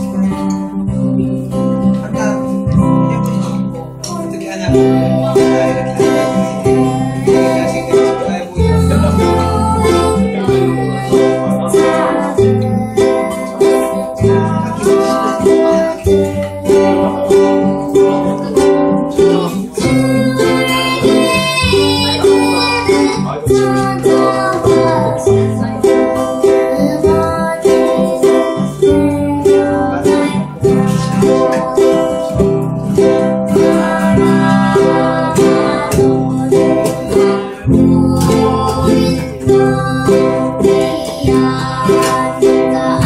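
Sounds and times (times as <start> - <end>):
girl singing: 0.0 - 1.8, 4.1 - 43.0
acoustic guitar strumming: 0.0 - 43.0
ukulele strumming: 0.0 - 43.0.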